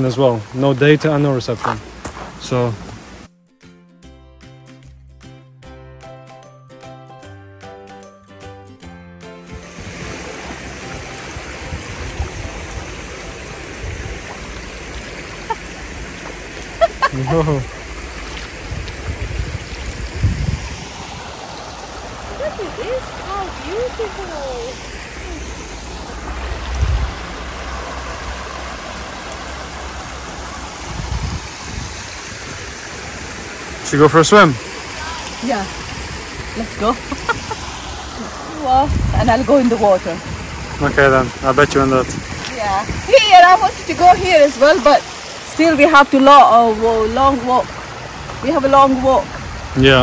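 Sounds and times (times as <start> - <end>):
stream babbling over rocks: 9.6 - 50.0.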